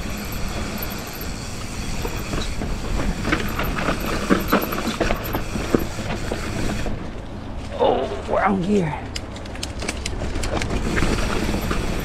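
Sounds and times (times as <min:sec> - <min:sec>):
bike chain and frame rattling: 0:00.0 - 0:07.0, 0:09.3 - 0:12.0.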